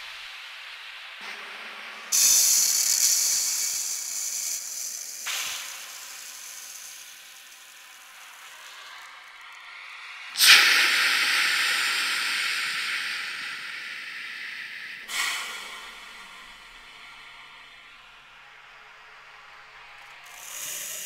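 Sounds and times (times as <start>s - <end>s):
hiss of rushing air: 0.0s - 17.8s, 20.2s - 21.0s.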